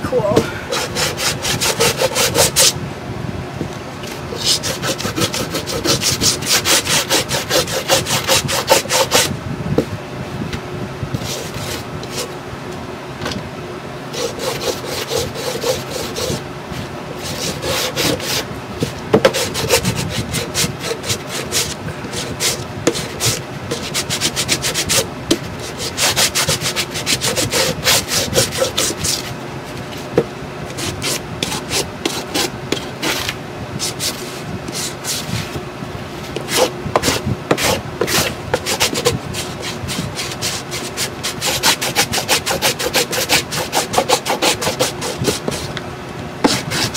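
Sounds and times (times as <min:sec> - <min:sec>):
sanding block scratching wood: 0:00.7 - 0:02.8, 0:04.1 - 0:09.3, 0:11.2 - 0:12.4, 0:14.1 - 0:16.4, 0:17.2 - 0:35.6, 0:36.3 - 0:45.8, 0:46.4 - 0:46.9.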